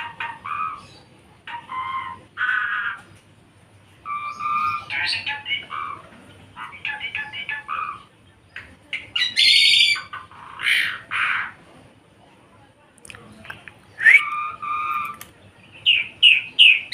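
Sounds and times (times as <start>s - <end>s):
starling singing: 0.0s - 3.2s, 3.9s - 11.6s, 13.8s - 16.9s.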